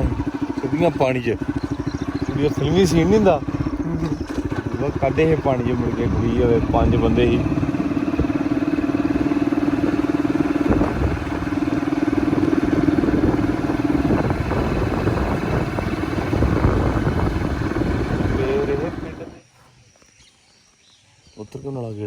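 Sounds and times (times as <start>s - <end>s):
motorcycle engine running: 0.0s - 19.4s
wind and road noise: 0.0s - 19.4s.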